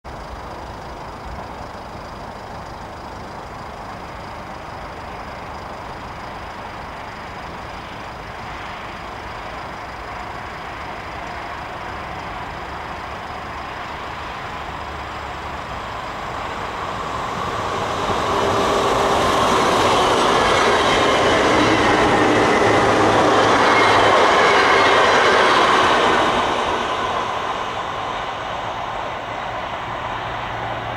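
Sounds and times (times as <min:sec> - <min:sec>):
train wheels on rails passing: 0:00.1 - 0:30.9.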